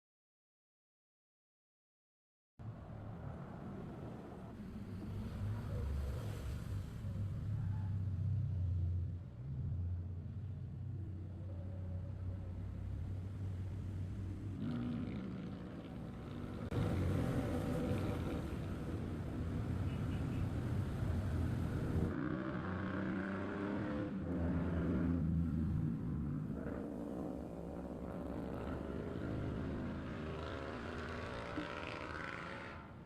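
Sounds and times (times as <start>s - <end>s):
vehicle engines passing: 2.6s - 33.0s.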